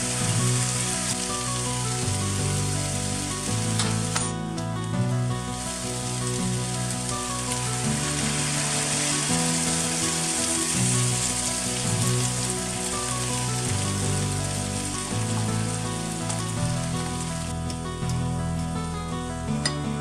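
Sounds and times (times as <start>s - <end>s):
food sizzling in a frying pan: 0.0s - 4.4s, 5.3s - 17.5s
background music: 0.0s - 20.0s.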